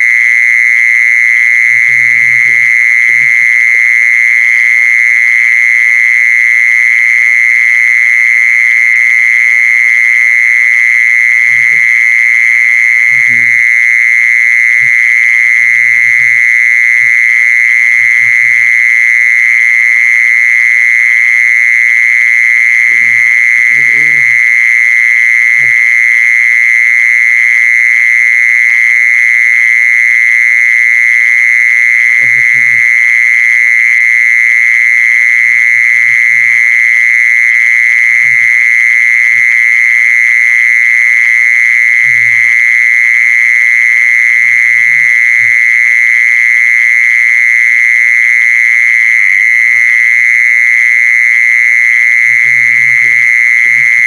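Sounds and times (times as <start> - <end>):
insect high-pitched trill: 0.0 - 30.4, 31.0 - 54.0.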